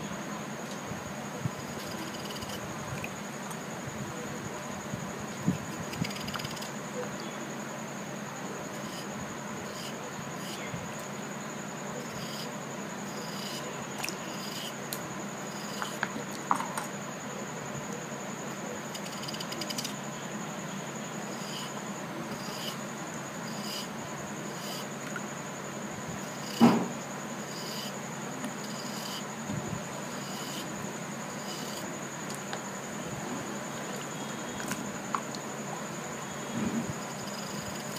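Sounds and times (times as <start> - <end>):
faint high steady whine: 0.0 - 37.9.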